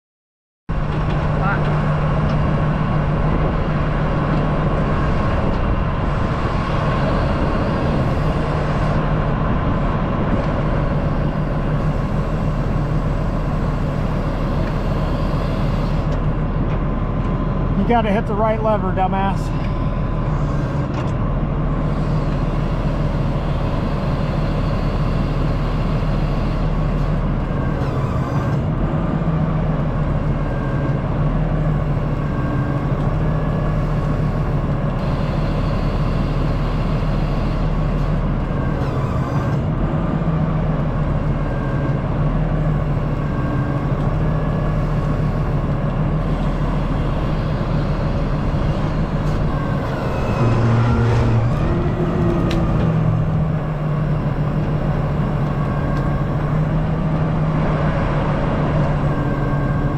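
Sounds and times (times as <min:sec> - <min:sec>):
excavator diesel engine running: 0:00.7 - 0:59.9.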